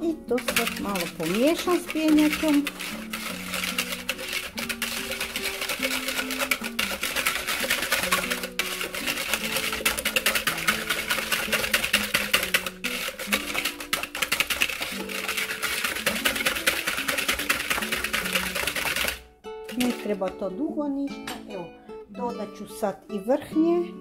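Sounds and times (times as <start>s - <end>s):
background music: 0.0s - 24.0s
wire whisk clicking against jug: 0.4s - 20.0s.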